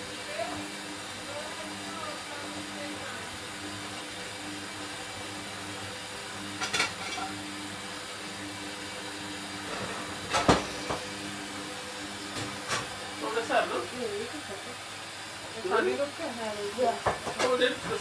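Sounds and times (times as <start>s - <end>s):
water hissing into washing machine: 0.0s - 18.0s.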